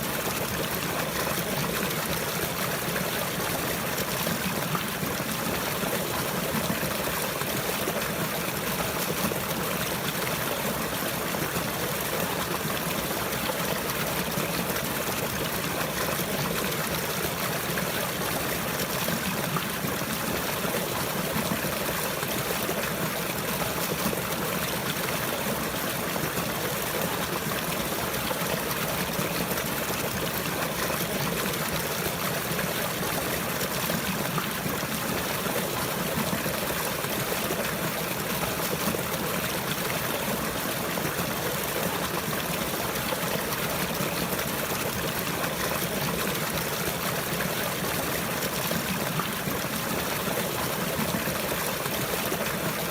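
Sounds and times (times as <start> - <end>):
water flowing and trickling: 0.0 - 52.9.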